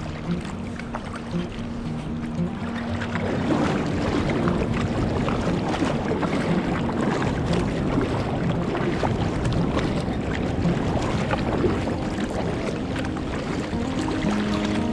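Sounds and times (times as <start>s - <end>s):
moving water rushing: 0.0s - 14.9s
water splashing around kayak: 0.0s - 14.9s.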